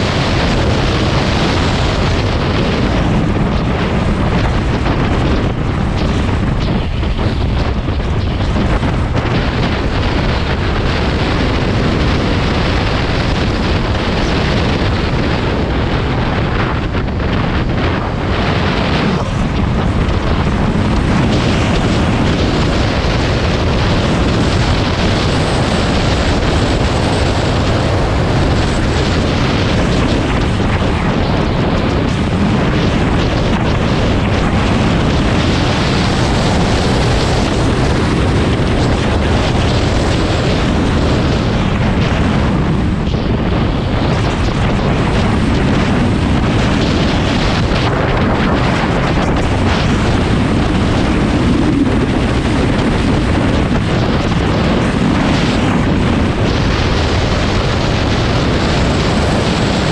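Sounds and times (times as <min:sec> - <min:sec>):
dirt bike engine running: 0:00.0 - 0:59.9
wind on microphone: 0:00.0 - 0:59.9.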